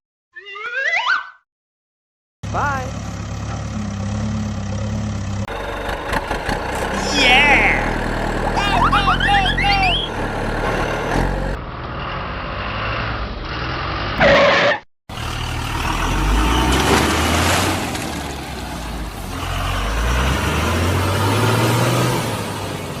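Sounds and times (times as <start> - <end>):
truck engine revving: 2.4 - 14.2, 15.1 - 23.0.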